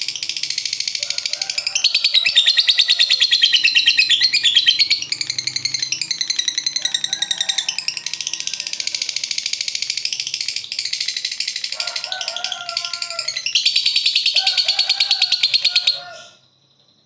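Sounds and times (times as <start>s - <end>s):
lovebird chattering song: 0.0s - 16.4s.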